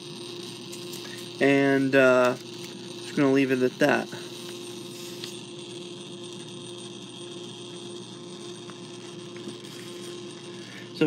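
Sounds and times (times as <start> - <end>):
spring motor whirring: 0.0 - 11.0.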